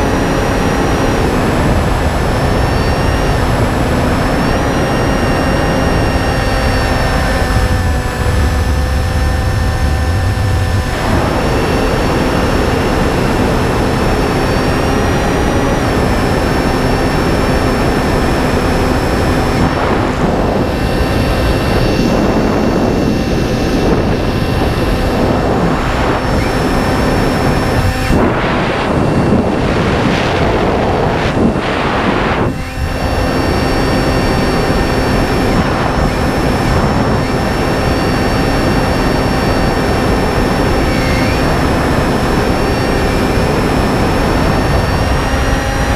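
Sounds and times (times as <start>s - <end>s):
electric motor propeller whine: 0.0s - 45.9s
wind gusts: 0.0s - 45.9s.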